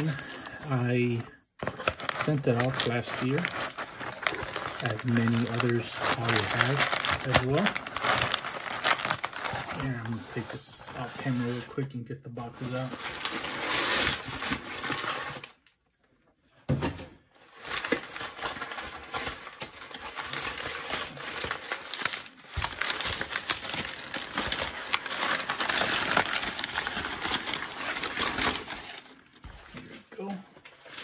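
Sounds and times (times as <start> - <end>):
packing paper rustling and crinkling: 0.0 - 15.6, 17.4 - 30.0.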